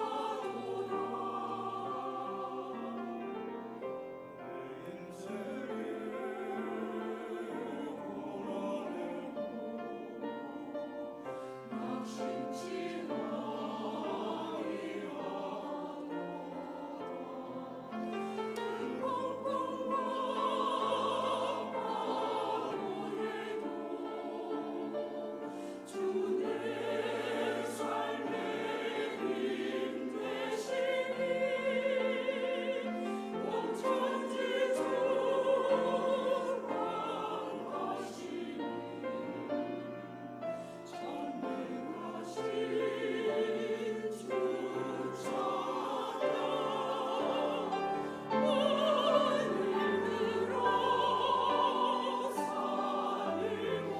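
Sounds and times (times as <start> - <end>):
choir singing in harmony: 0.0 - 53.9.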